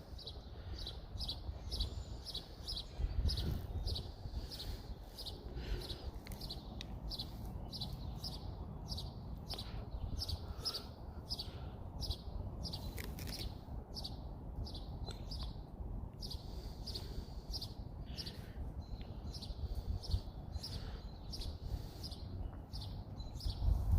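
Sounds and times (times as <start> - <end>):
small birds chirping: 0.0 - 23.9
wind rumble on microphone: 0.0 - 23.9.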